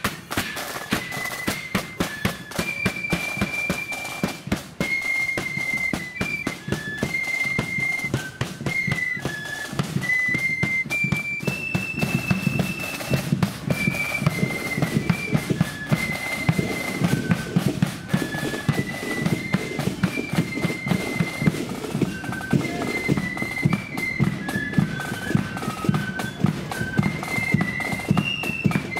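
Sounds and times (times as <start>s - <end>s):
flutes playing melody: 0.0s - 28.9s.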